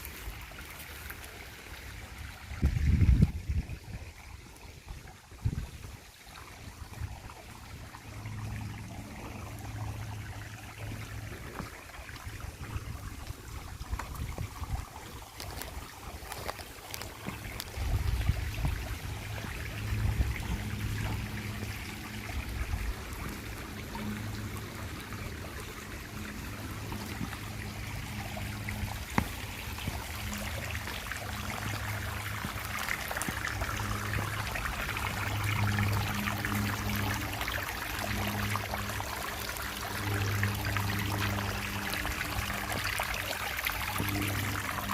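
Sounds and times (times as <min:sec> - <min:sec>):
stream trickling over rocks: 0:00.0 - 0:44.9
low hum: 0:06.7 - 0:15.2, 0:17.3 - 0:44.9.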